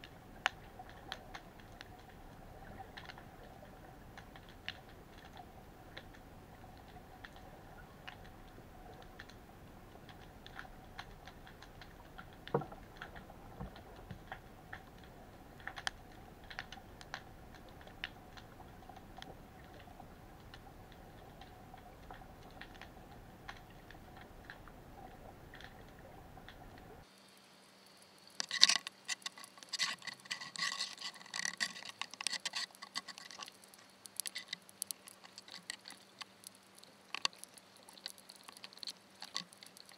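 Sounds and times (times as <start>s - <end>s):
crab clicking and scratching: 0.0s - 27.2s, 27.9s - 39.9s
faint underwater clicks and crackles: 0.0s - 39.9s
steady underwater hum: 0.0s - 39.9s.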